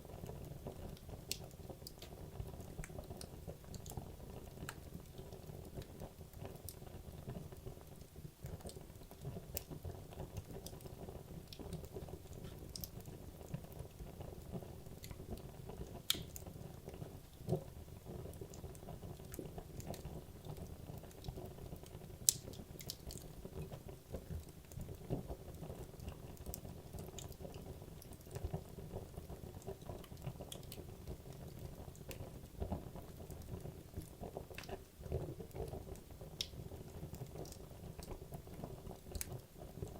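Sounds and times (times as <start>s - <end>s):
firewood crackling and popping: 0.0s - 39.9s
low rumble of flame: 0.0s - 39.9s.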